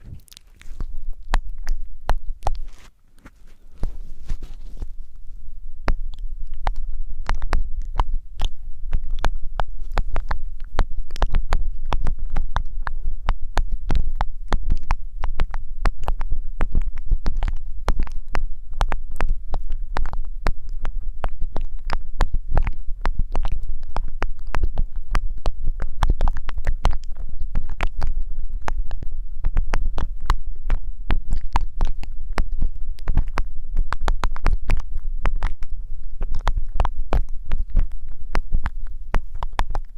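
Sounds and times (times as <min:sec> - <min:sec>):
rubbing and crackling on microphone: 0:00.0 - 0:39.9.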